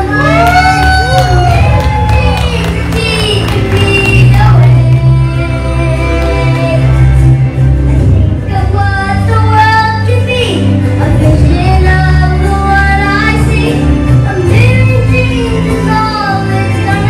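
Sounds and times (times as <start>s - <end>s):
child singing into microphone: 0.0s - 7.1s, 8.0s - 17.0s
live band: 0.0s - 17.0s.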